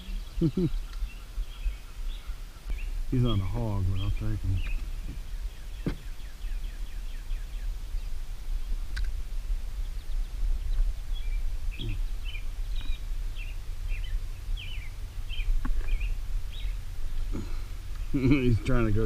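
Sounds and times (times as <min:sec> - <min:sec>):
birds chirping: 0:00.0 - 0:19.0
low rumble: 0:00.0 - 0:19.0.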